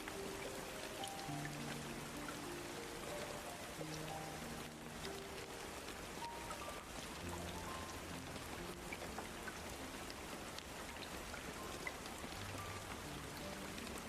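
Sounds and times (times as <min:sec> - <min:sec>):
raindrop ticks: 0:00.0 - 0:14.0
soft low music tones: 0:00.0 - 0:14.0
steady rain: 0:00.0 - 0:14.0.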